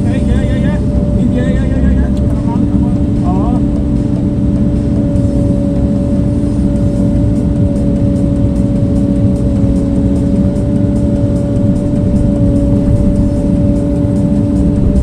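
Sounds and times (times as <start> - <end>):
earthmoving machine engine running: 0.0 - 15.0.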